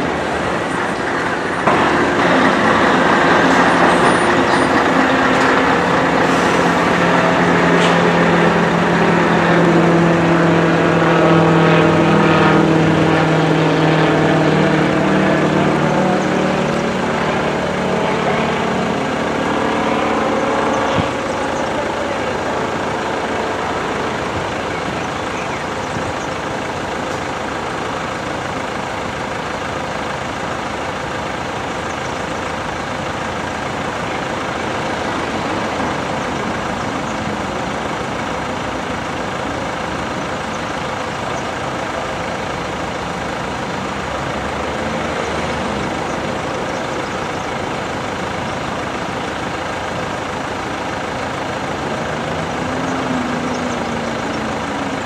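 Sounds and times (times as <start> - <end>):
vehicles idling: 0.0 - 55.0.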